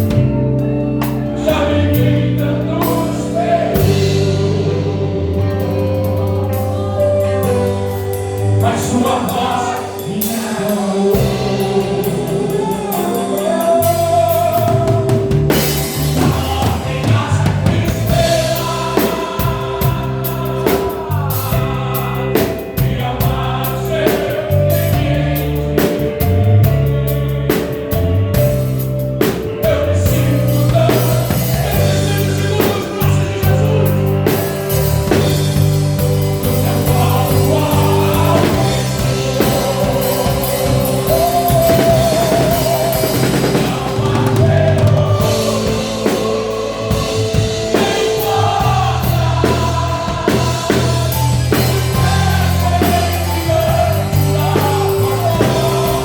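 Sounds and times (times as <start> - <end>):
drum kit: 0.0 - 56.0
electric bass: 0.0 - 56.0
keyboard chords: 0.0 - 56.0
voices singing: 0.0 - 56.0.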